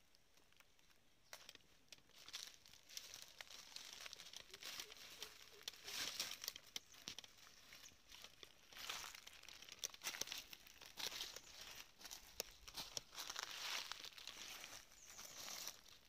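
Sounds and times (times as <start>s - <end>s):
footsteps on dry leaves: 1.3s - 16.0s.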